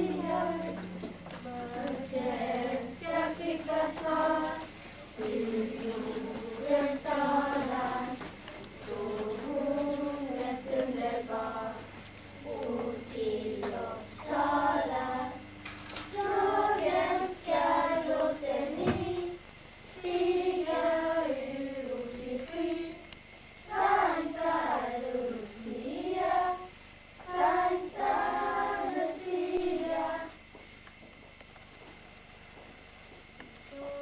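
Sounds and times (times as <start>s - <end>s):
children singing together: 0.0s - 15.4s, 16.1s - 23.0s, 23.6s - 30.4s.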